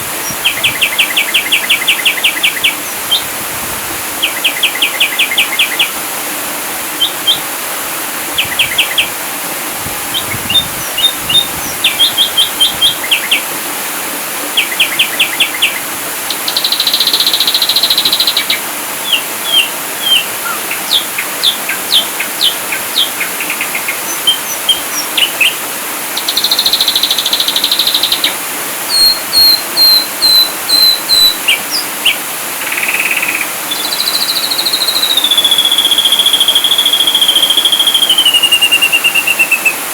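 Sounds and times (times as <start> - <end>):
steady hiss: 0.0 - 39.9
bird singing: 0.2 - 3.3, 4.2 - 6.0, 7.0 - 7.5, 8.4 - 9.1, 10.1 - 13.5, 14.6 - 25.6, 26.2 - 39.8.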